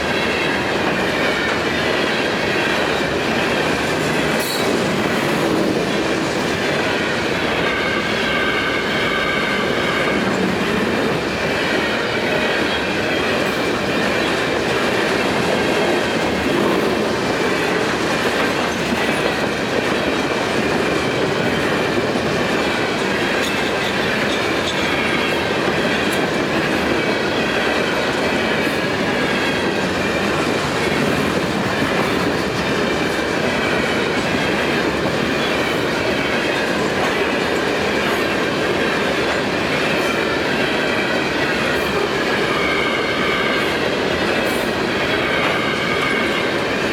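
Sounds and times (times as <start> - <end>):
train wheels clacking over rail joints: 0.0 - 46.9.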